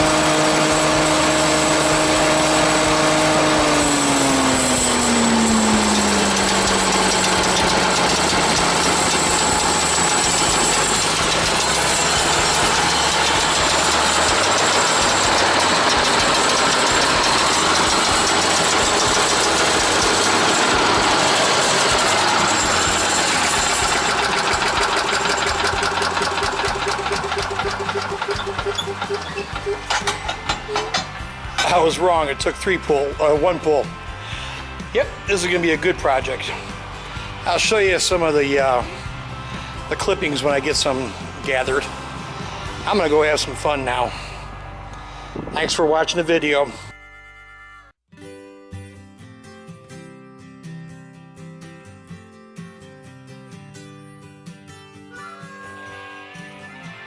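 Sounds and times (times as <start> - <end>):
gas engine running: 0.0 - 46.7.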